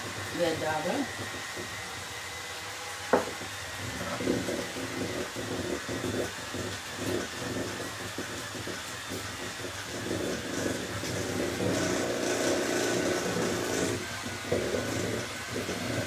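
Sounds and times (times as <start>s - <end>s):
electric mixer whipping in metal bowl: 0.0s - 16.0s.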